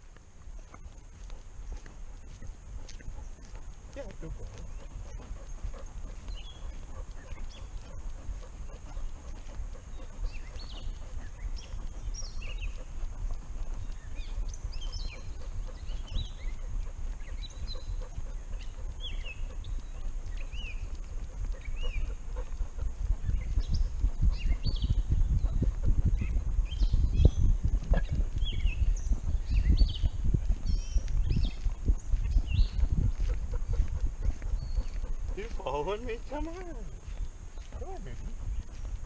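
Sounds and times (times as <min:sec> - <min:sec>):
small birds chirping: 0:00.0 - 0:39.0
steady low rumble: 0:00.0 - 0:39.0.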